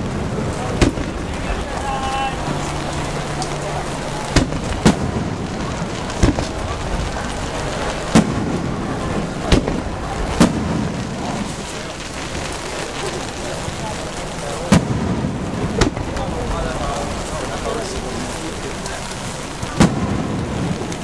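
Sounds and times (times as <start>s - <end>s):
firework shells bursting: 0.0s - 21.0s
rain hissing: 0.0s - 21.0s.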